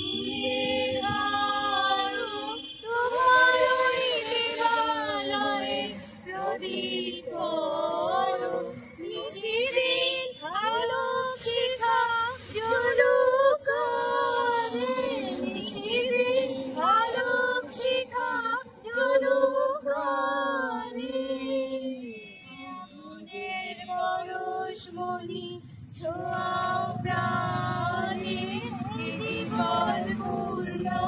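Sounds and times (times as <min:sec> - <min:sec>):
group singing unaccompanied: 0:00.0 - 0:31.0.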